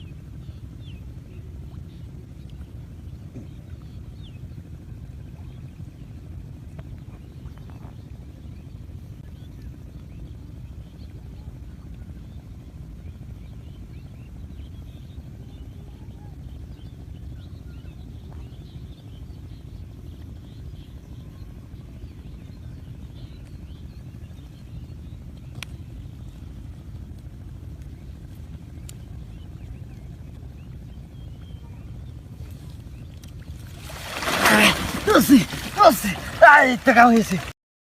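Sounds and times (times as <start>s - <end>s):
small birds chirping: 0.0s - 37.5s
steady low rumble: 0.0s - 37.5s.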